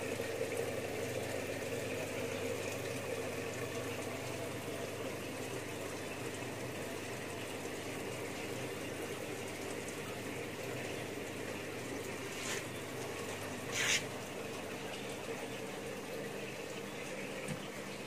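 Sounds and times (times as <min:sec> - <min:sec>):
water running into tub: 0:00.0 - 0:18.0.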